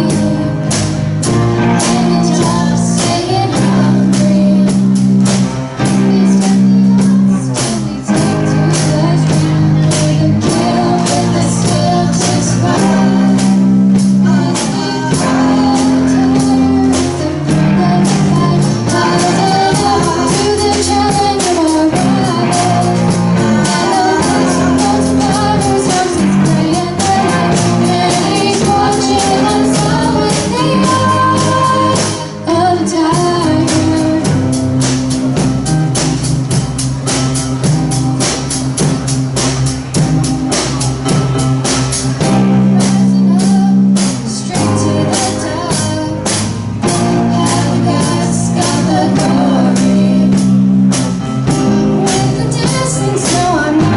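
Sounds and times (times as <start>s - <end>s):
person singing: 0.0s - 53.9s
rock band playing: 0.0s - 53.9s.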